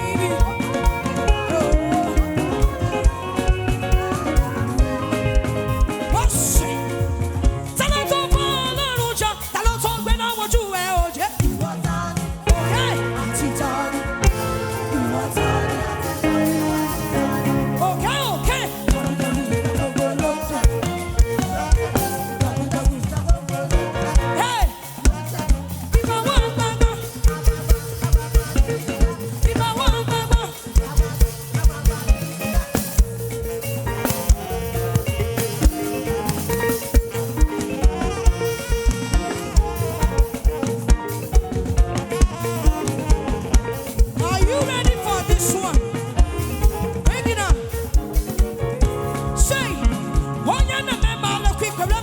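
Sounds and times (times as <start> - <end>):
bass: 0.0 - 52.0
drum kit steady beat: 0.0 - 52.0.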